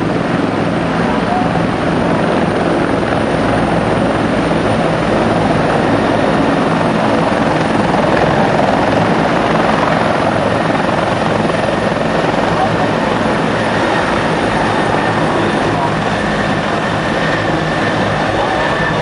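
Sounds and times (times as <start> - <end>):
helicopters flying low: 0.0 - 19.0.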